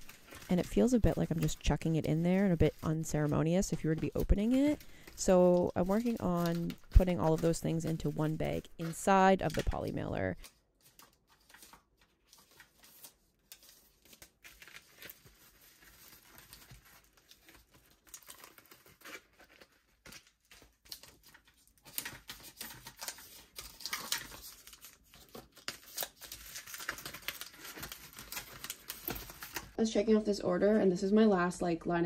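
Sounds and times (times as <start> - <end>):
foil mailers crinkling: 0.0 - 29.8
plastic pouch rustling: 0.0 - 29.8.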